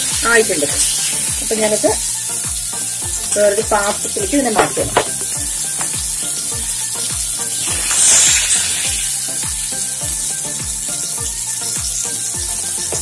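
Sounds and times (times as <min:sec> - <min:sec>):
background music with a beat: 0:00.0 - 0:13.0
hot oil sizzling in a pan: 0:00.0 - 0:13.0.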